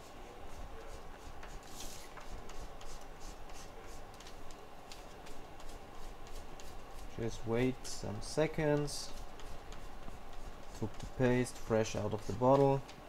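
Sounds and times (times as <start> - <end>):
light scratching strokes: 0.0 - 12.8
steady low hum: 0.0 - 13.0.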